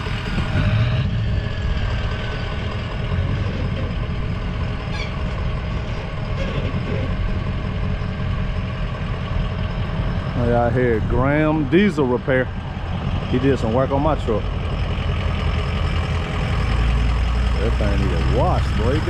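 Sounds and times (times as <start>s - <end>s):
truck engine rumbling: 0.0s - 19.0s.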